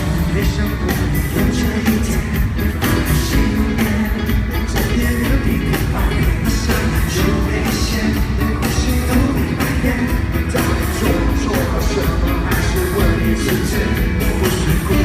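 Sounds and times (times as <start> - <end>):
live pop band music: 0.0 - 15.0
steady drum beat: 0.0 - 15.0.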